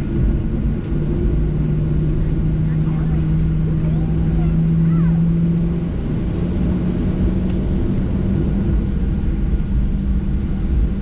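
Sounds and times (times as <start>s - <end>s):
cabin rumble: 0.0s - 11.0s
jet engines humming: 0.0s - 11.0s.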